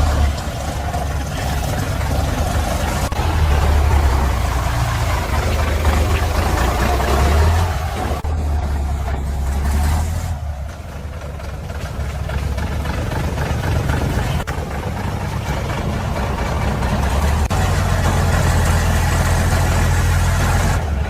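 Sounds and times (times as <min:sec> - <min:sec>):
heavy truck engine rumbling: 0:00.0 - 0:21.0.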